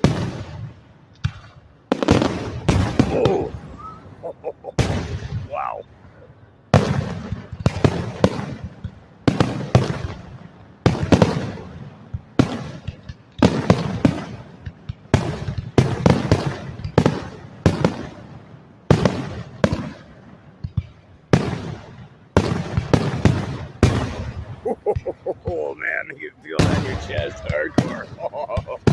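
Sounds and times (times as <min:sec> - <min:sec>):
fireworks bursting with sharp bangs: 0:00.0 - 0:28.9.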